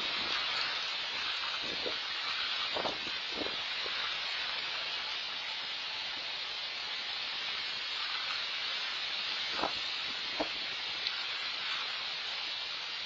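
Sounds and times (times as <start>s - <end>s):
rain falling on pond: 0.0s - 13.0s.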